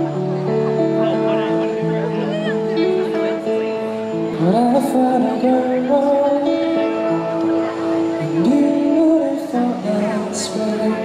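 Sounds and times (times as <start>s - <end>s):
amplified guitar: 0.0s - 11.0s
person singing through amplifier: 0.0s - 11.0s.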